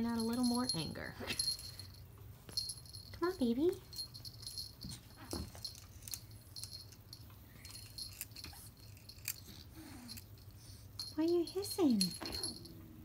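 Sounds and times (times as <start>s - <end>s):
cat toy jingling: 0.0s - 12.8s.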